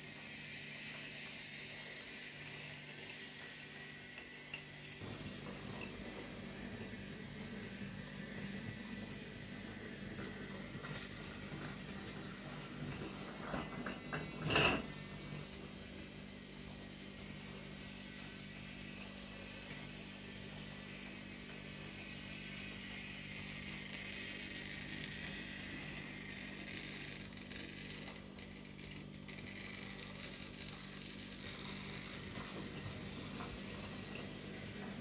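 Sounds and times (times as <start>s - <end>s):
toy train motor humming: 0.0s - 35.0s.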